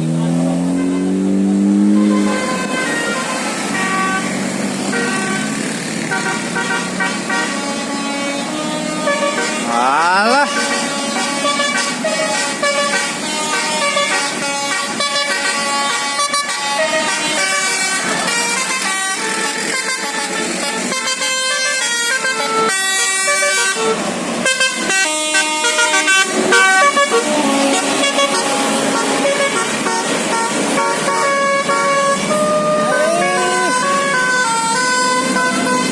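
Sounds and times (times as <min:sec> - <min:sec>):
musical air horn playing a tune: 0:00.5 - 0:35.9.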